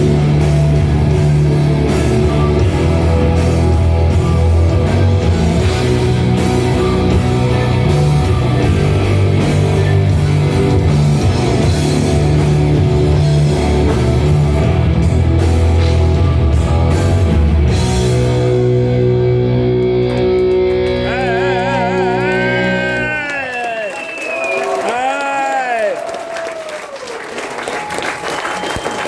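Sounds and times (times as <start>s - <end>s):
black metal band playing: 0.0s - 23.7s.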